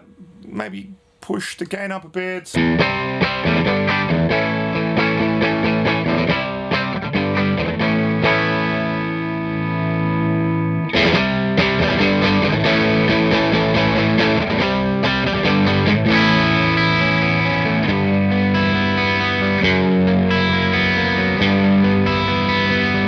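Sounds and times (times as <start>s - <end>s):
overdriven electric guitar: 2.6s - 23.0s.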